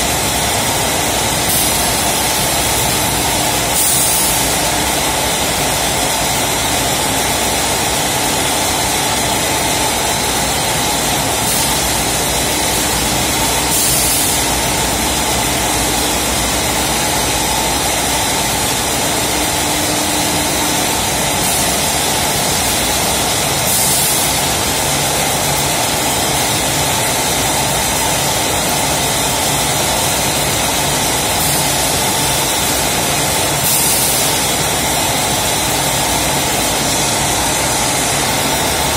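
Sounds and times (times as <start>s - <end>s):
packaging machine humming: 0.0s - 38.9s.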